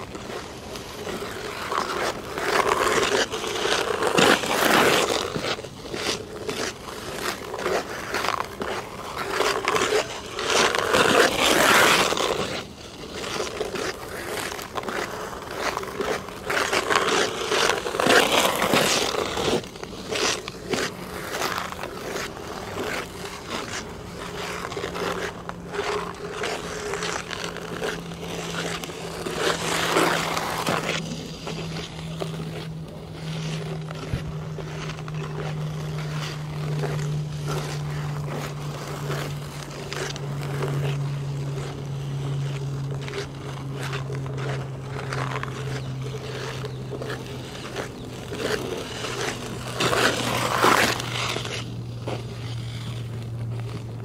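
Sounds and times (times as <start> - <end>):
ice skates scraping on ice: 0.0 - 54.0
low steady hum: 0.0 - 54.0.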